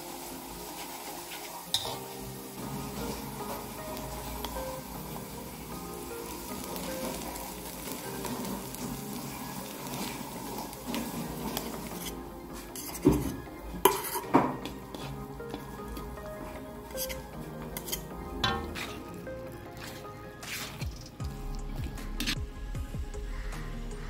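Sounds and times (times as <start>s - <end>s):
paste frying in hot oil: 0.0s - 22.4s.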